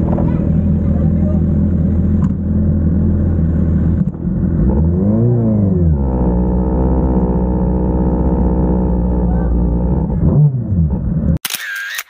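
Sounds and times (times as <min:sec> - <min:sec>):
motorcycle engine idling and revving: 0:00.0 - 0:11.4.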